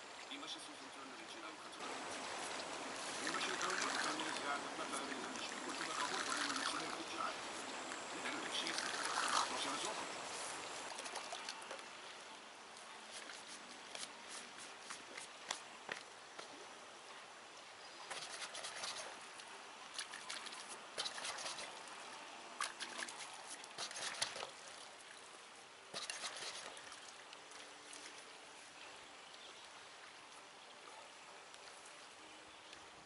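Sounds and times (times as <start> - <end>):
water trickling and lapping: 0.0 - 33.0.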